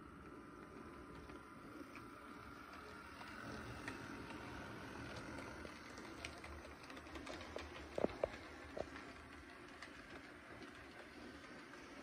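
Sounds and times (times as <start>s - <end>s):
model train motor whir: 0.0s - 12.0s.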